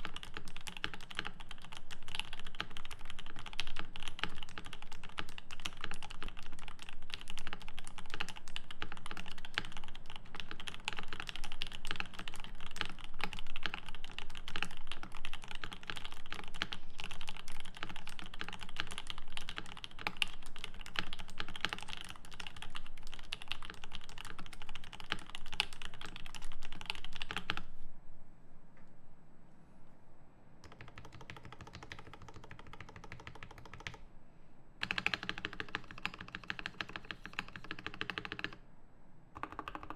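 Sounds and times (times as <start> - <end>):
mechanical keyboard typing: 0.0 - 27.7, 30.6 - 34.0, 34.8 - 38.6, 39.4 - 39.9.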